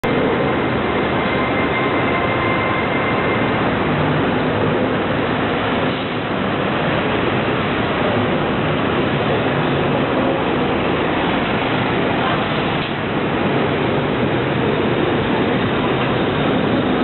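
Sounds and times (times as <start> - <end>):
loud rushing noise: 0.0 - 17.0.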